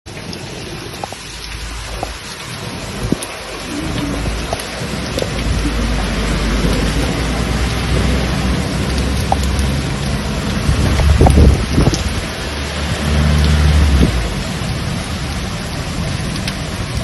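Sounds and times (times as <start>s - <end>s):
heavy rain pouring: 0.1s - 17.0s
deep low rumble: 1.4s - 17.0s.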